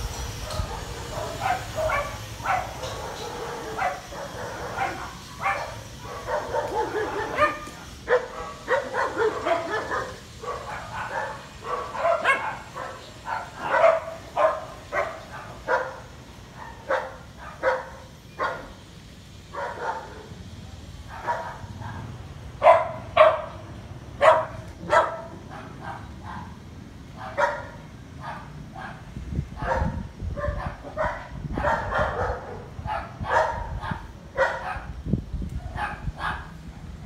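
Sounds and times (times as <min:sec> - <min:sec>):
dog barking: 0:00.4 - 0:18.8, 0:19.5 - 0:20.3, 0:21.1 - 0:23.6, 0:24.2 - 0:26.6, 0:27.2 - 0:34.9, 0:35.6 - 0:36.6.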